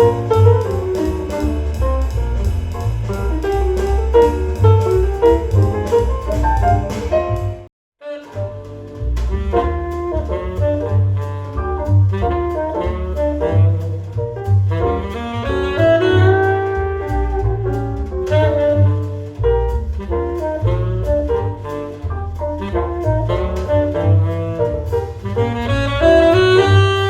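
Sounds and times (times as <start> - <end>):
bass line: 0.0 - 7.7, 8.3 - 27.0
horn lead: 0.0 - 27.0
instrumental jazz on hi-fi: 0.0 - 27.0.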